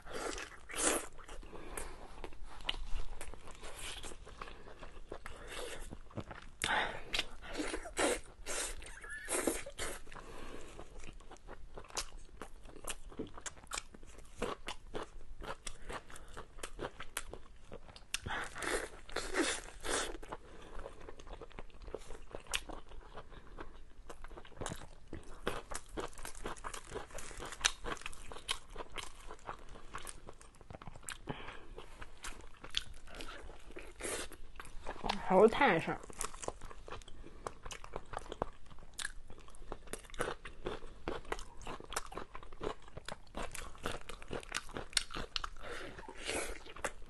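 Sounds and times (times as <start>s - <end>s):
person chewing food: 0.0s - 35.2s, 36.0s - 47.0s.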